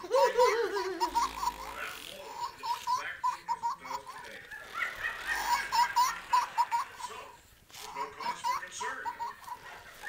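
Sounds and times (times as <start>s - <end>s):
baby giggling: 0.0s - 10.0s.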